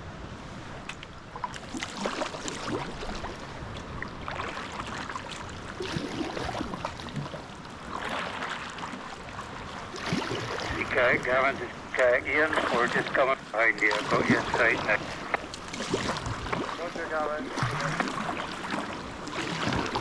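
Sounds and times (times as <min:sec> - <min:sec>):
water gurgling around boat: 0:00.4 - 0:20.0
paddle splashing in water: 0:00.6 - 0:20.0.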